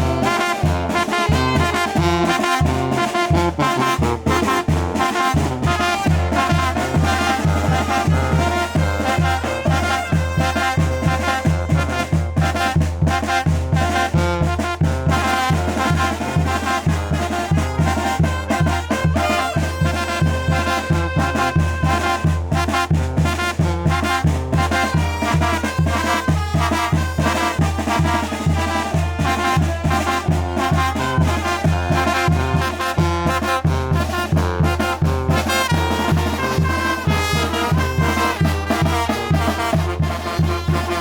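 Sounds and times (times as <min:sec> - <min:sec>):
trumpets and trombones: 0:00.0 - 0:41.0.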